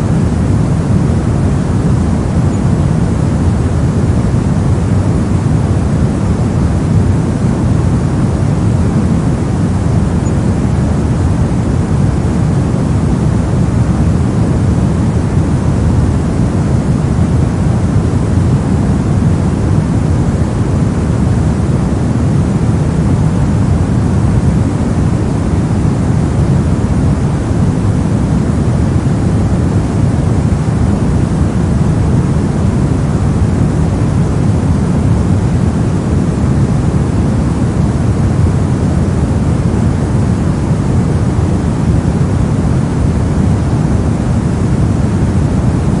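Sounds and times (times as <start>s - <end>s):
steady low hiss: 0.0s - 46.0s.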